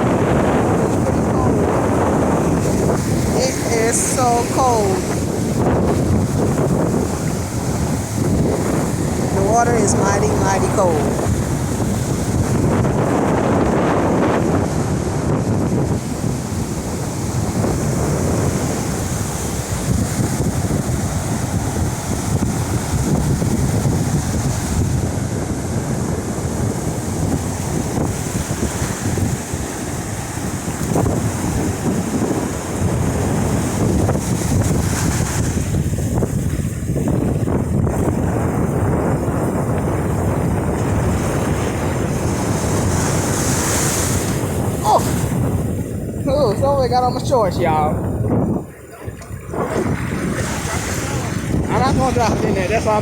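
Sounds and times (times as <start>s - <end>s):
ocean surf breaking: 0.0s - 53.0s
wind buffeting microphone: 0.0s - 53.0s.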